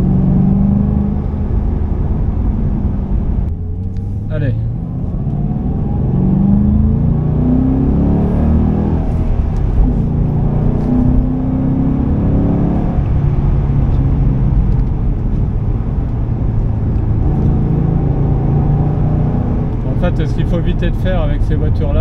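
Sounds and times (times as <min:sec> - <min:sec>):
car engine while driving: 0:00.0 - 0:22.0
road rumble: 0:00.0 - 0:22.0.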